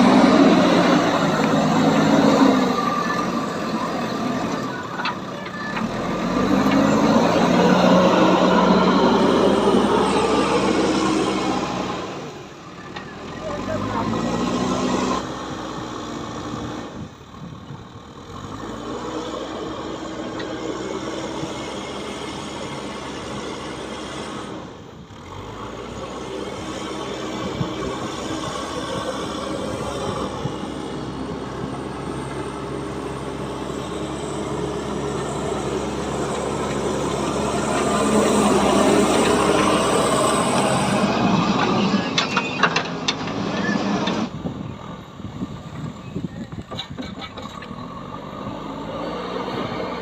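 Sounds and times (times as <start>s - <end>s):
heavy diesel engine running: 0.0s - 50.0s.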